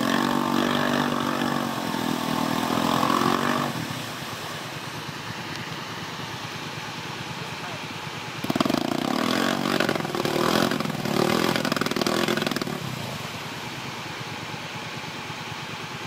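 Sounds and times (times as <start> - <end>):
atv engine revving: 0.0 - 14.5
wheels churning in mud: 0.0 - 16.0.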